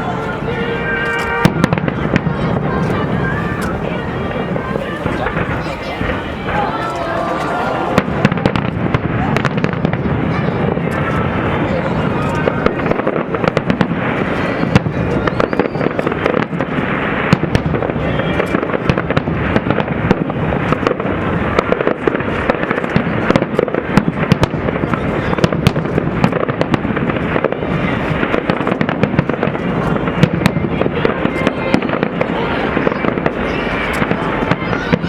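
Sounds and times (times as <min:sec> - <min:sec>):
fireworks booming: 0:00.0 - 0:35.0
fireworks cracking: 0:00.0 - 0:35.0.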